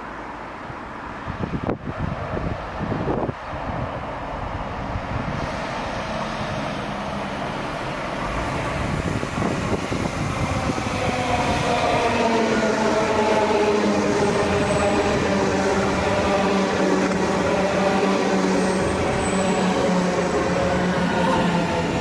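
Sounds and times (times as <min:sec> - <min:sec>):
electric train rushing: 0:01.6 - 0:22.0.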